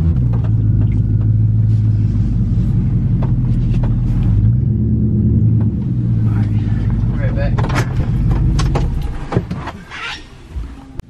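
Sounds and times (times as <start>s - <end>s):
truck engine low hum: 0.0s - 11.0s.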